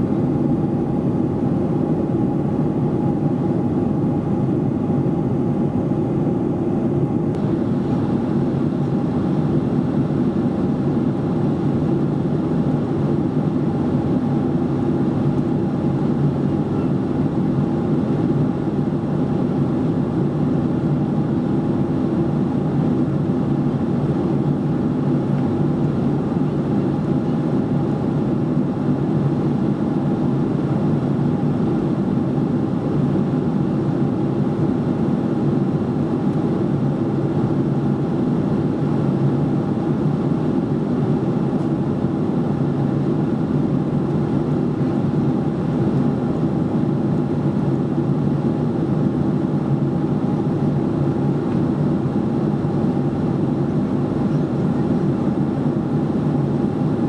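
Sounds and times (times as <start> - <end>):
airflow over fuselage: 0.0 - 57.0
jet engines droning: 0.0 - 57.0.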